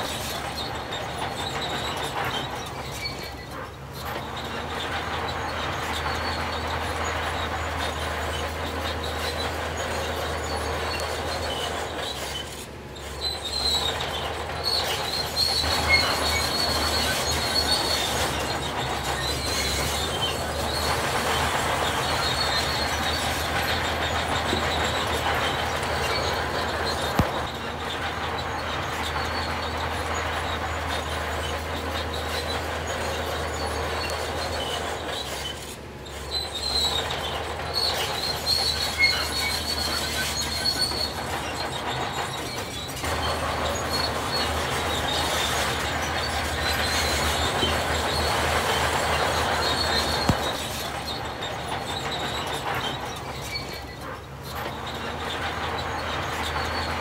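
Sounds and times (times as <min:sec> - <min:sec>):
heavy machinery running: 0:00.0 - 0:57.0
high metallic squealing: 0:00.0 - 0:57.0.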